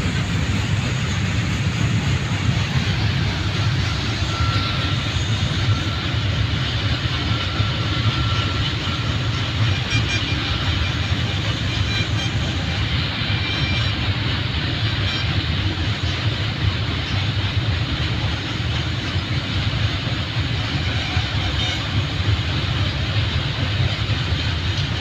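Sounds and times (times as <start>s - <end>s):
goods train rumbling on tracks: 0.0s - 25.0s.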